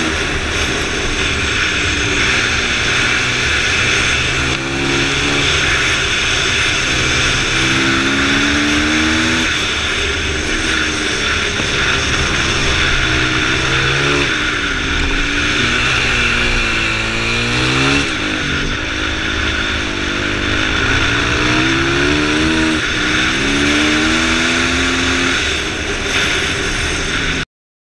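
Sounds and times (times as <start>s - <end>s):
motorcycle engine revving: 0.0s - 27.4s
wind rushing over microphone: 0.0s - 27.4s.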